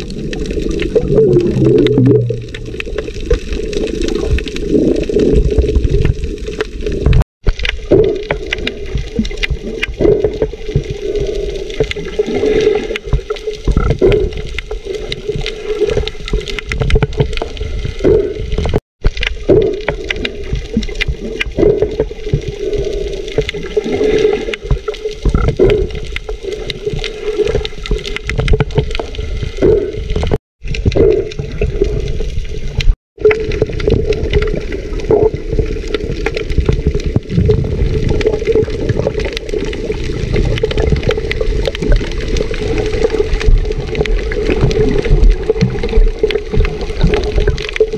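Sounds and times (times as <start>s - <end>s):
water rushing underwater: 0.0s - 47.9s.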